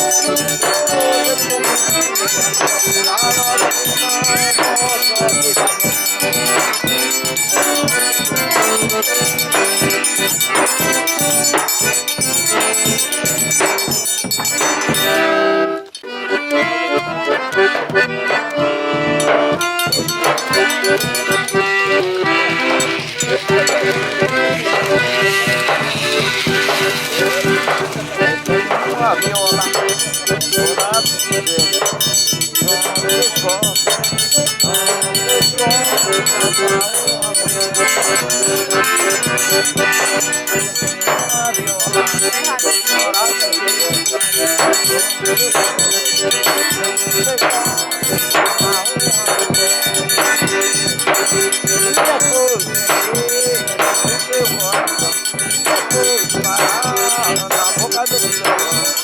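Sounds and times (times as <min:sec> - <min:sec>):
accordion melody: 0:00.0 - 0:59.0
steady percussion beat: 0:00.0 - 0:59.0.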